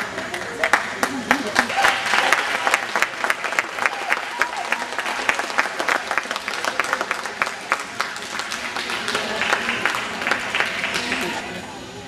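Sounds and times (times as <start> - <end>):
spectators applauding: 0.0 - 11.6.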